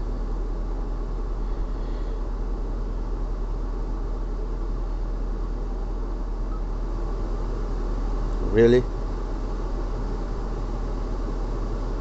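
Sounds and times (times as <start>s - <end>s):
climate control fan blowing: 0.0s - 12.0s.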